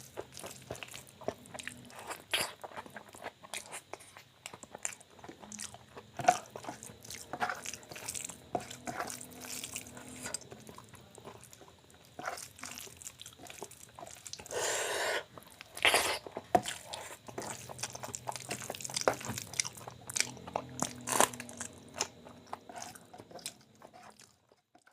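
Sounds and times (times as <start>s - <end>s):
wet chewing: 0.0s - 24.9s.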